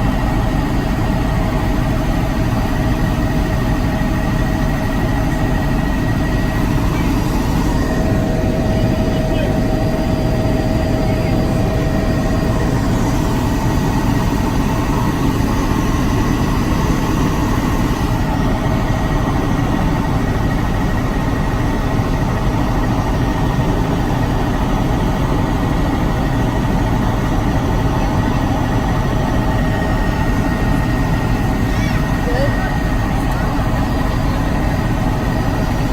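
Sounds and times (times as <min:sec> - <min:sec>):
helicopter rotor and engine: 0:00.0 - 0:35.9
thin steady whine: 0:00.0 - 0:35.9.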